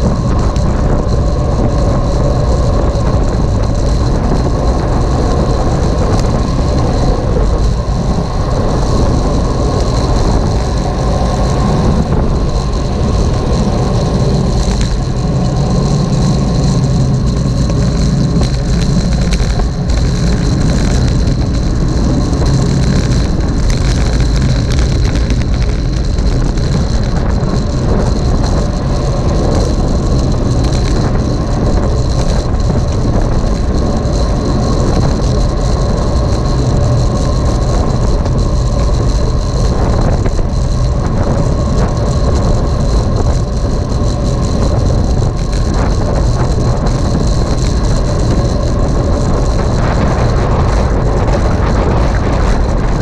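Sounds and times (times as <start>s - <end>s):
high-pitched whine: 0.0s - 53.0s
road noise rumbling: 0.0s - 53.0s
wind noise on microphone: 0.0s - 53.0s.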